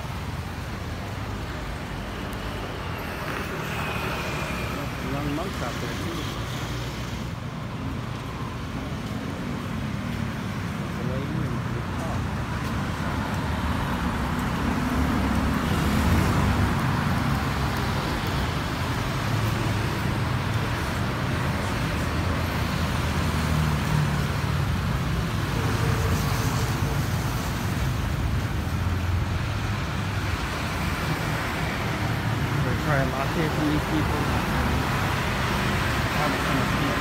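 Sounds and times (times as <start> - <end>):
cars and scooters driving past: 0.0 - 37.0.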